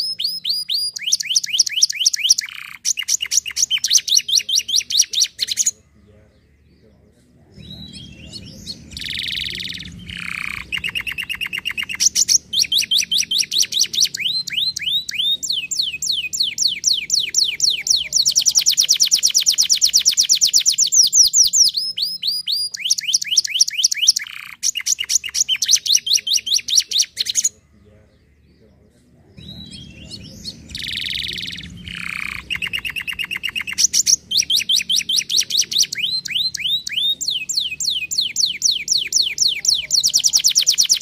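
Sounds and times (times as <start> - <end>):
canary singing: 0.0 - 41.0.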